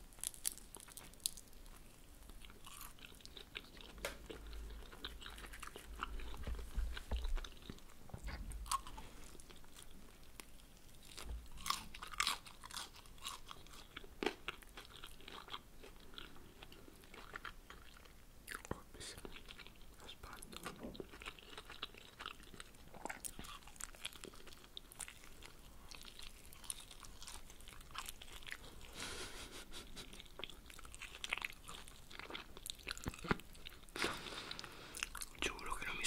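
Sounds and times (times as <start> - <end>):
crunchy spring roll chewing: 0.0 - 36.0.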